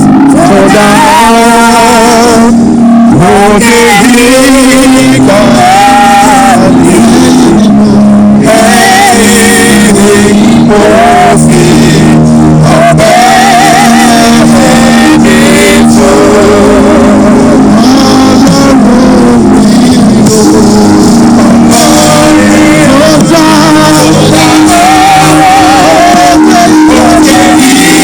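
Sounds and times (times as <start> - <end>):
held instrumental chords: 0.0 - 28.0
person singing with vibrato: 0.0 - 28.0.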